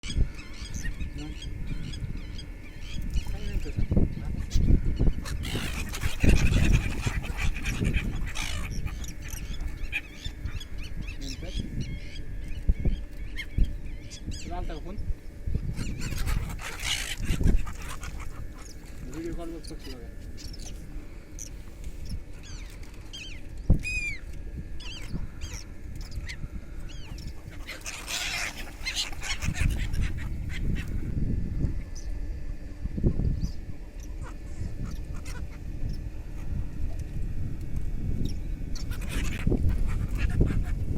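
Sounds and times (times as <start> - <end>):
birds calling: 0.0 - 37.2, 37.8 - 40.9.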